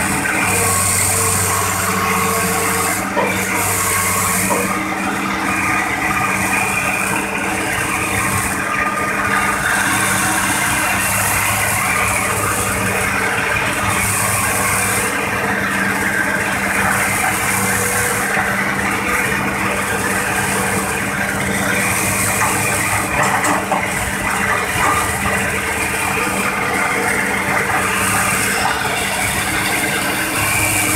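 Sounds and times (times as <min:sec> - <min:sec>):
diesel excavator engine running: 0:00.0 - 0:30.9.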